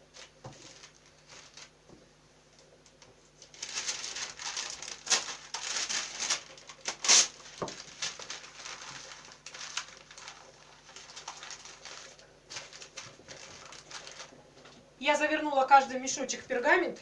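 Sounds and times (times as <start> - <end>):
parchment paper crinkling: 0.1 - 1.9, 2.6 - 14.9.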